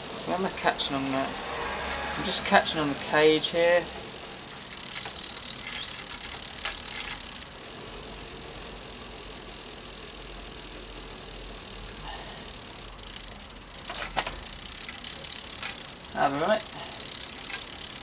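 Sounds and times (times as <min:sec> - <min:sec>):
bicycle chain hissing: 0:00.0 - 0:18.0
drivetrain ticks: 0:00.0 - 0:18.0.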